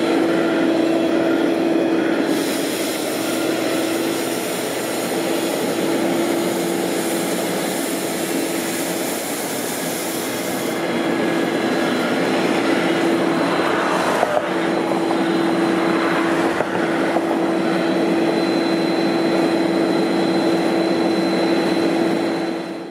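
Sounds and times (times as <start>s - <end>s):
tractor engine hum: 0.0s - 22.9s.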